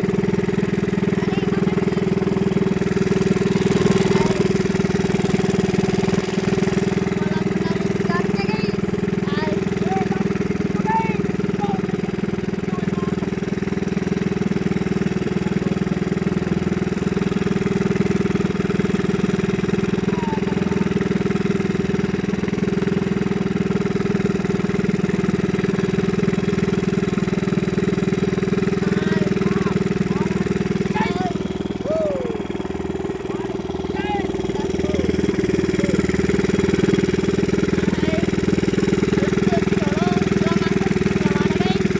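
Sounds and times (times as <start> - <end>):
boat engine humming: 0.0 - 41.9.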